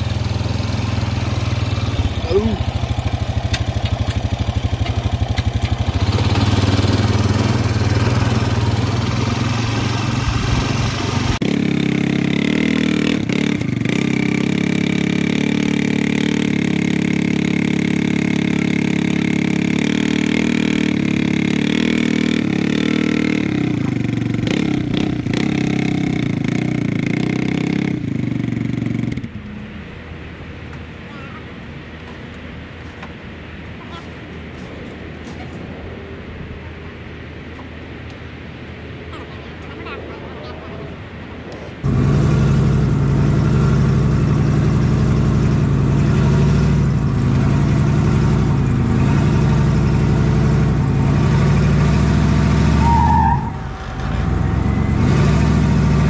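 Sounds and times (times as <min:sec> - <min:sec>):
atv engine running: 0:00.0 - 0:31.0, 0:41.5 - 0:56.0.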